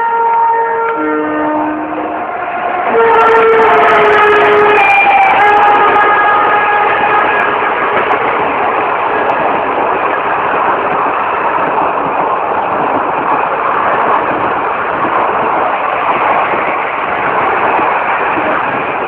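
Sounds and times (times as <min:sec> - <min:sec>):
passenger train rolling past: 0:00.0 - 0:19.0.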